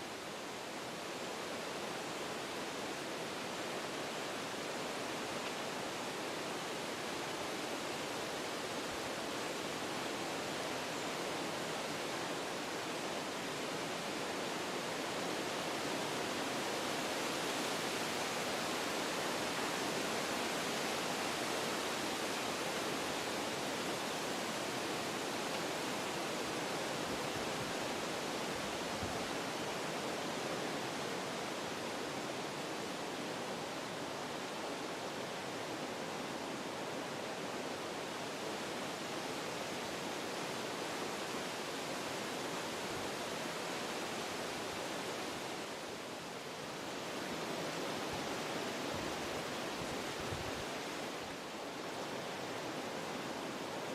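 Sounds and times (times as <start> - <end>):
wind through forest trees: 0.0 - 53.9.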